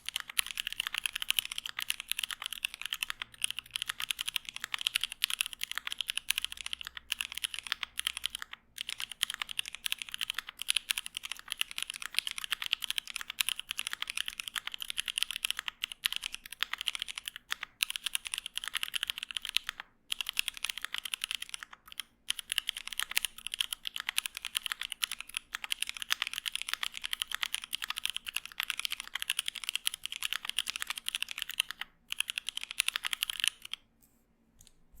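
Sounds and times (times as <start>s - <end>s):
fast typing on mechanical keyboard: 0.0s - 33.8s.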